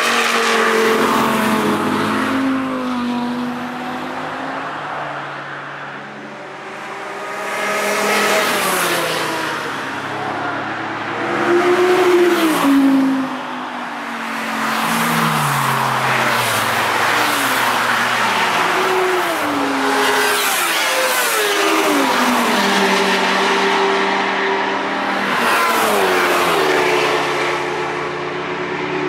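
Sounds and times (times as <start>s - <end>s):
race vehicles passing at speed: 0.0s - 29.0s.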